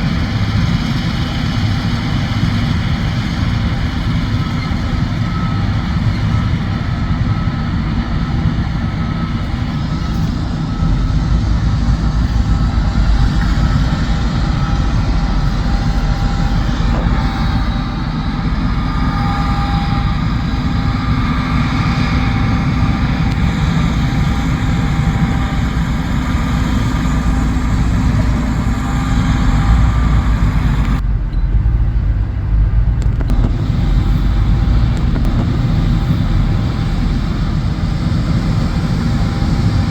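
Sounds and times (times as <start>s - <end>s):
combine harvester engine drone: 0.0s - 39.9s
faint whining tones: 0.4s - 39.9s.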